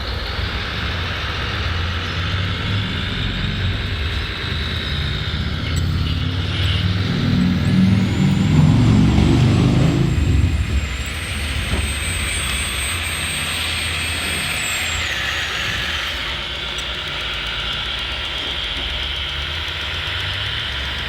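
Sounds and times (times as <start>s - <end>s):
high electric whine: 0.0s - 21.0s
model machine engine drone: 0.0s - 21.0s.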